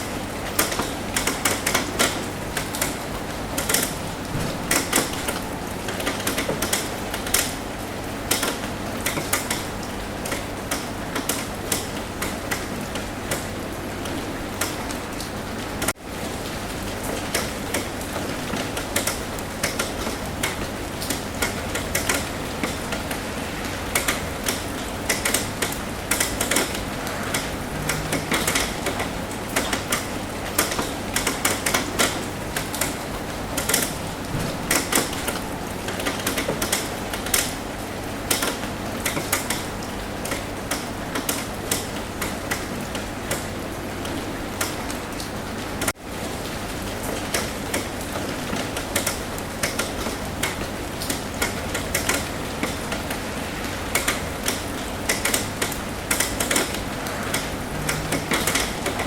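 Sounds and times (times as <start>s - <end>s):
rain hissing on a roof: 0.0s - 59.0s.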